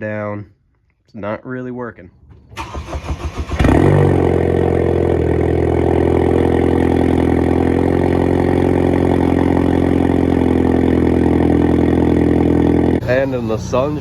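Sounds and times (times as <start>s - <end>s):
car engine starting and idling: 2.4s - 14.0s.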